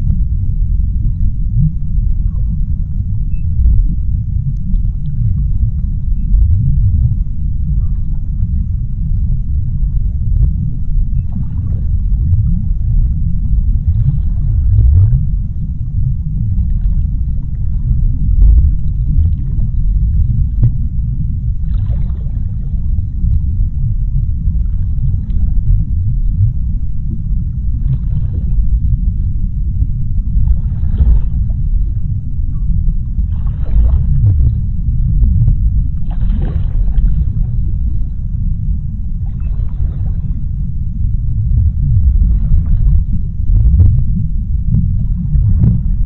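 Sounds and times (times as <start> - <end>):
faint water wash: 0.0 - 46.0
underwater low rumble: 0.0 - 46.0.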